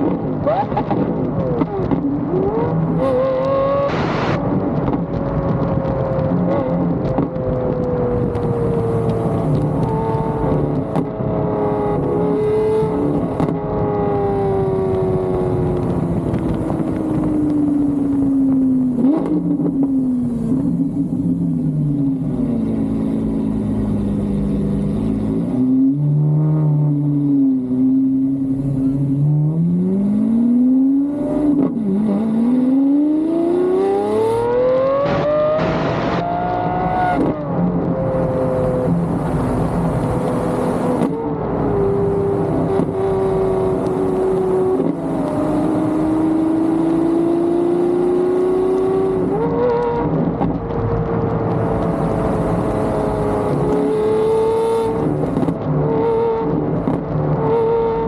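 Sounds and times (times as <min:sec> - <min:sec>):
car engine slowing and accelerating: 0:00.0 - 0:58.0.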